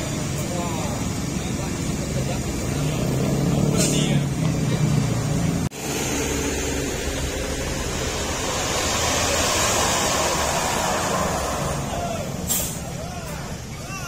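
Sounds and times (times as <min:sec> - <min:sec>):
diesel coach engine rumbling: 0:00.0 - 0:14.0.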